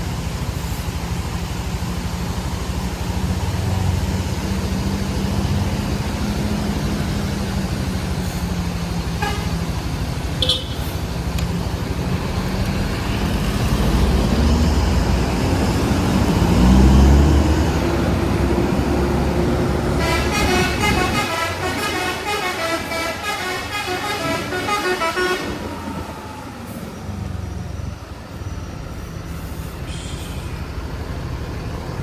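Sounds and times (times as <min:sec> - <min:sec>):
bus engine revving: 0:00.0 - 0:32.0.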